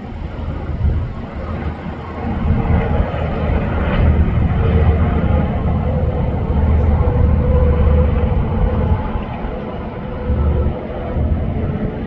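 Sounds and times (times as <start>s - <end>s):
highway traffic roar: 0.0s - 12.0s.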